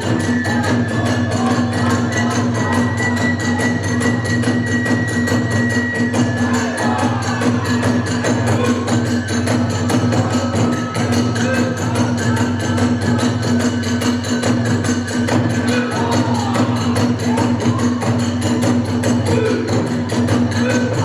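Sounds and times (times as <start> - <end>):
drums playing fast beat: 0.0 - 21.0
hand cymbals: 0.0 - 21.0.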